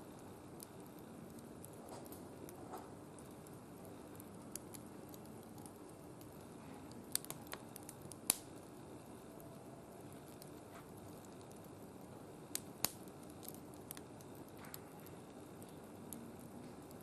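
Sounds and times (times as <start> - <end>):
low steady hiss: 0.0 - 17.0
wood fire crackling and popping: 0.0 - 17.0.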